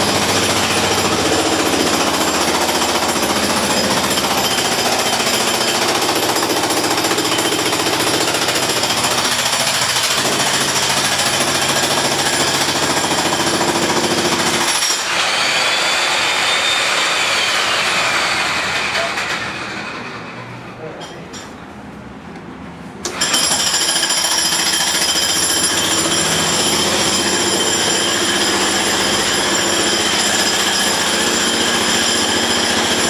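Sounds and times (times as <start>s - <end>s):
jackhammer pounding: 0.0s - 20.4s, 23.0s - 33.0s.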